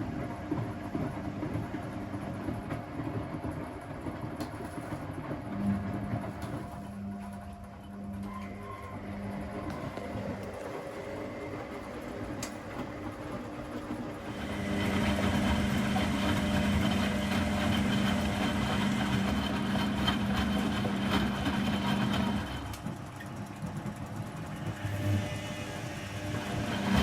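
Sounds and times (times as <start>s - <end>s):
washing machine motor humming: 0.0s - 27.0s.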